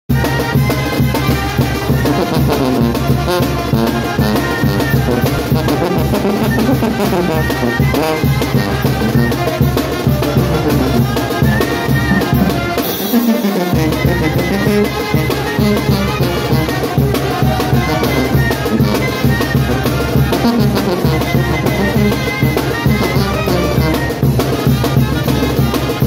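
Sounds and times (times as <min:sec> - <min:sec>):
brass band with drums: 0:00.1 - 0:26.0
sousaphone bass line: 0:02.0 - 0:09.5, 0:10.1 - 0:24.0.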